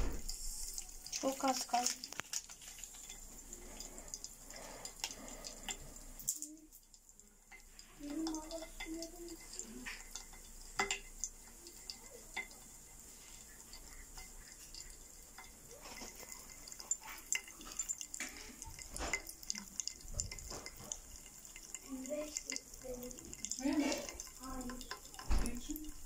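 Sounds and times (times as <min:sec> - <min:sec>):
popping candy crackling: 0:00.0 - 0:26.0.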